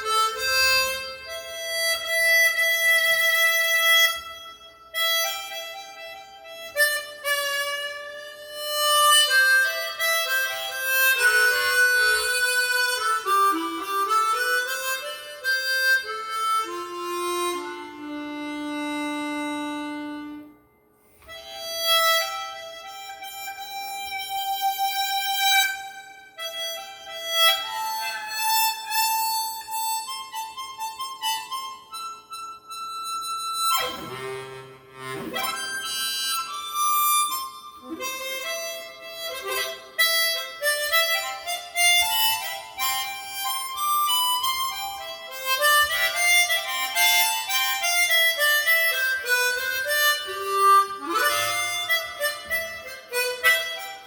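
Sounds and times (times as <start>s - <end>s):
harmonica melody: 0.0s - 54.0s.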